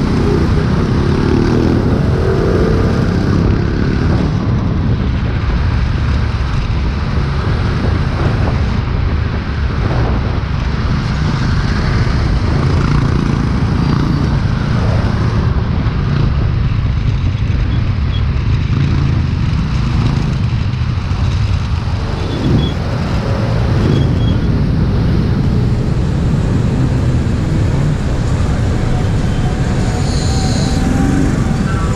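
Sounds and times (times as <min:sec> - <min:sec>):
road noise: 0:00.0 - 0:31.9
traffic: 0:00.0 - 0:31.9.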